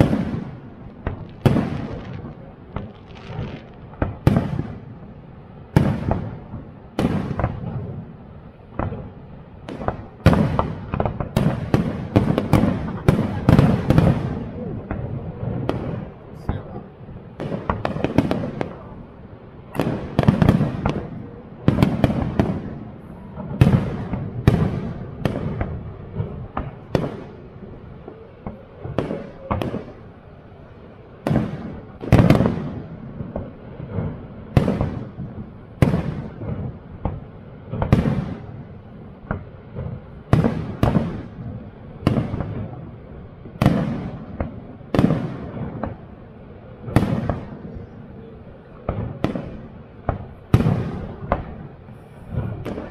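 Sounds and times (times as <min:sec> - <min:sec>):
fireworks bursting with echo: 0:00.0 - 0:52.9.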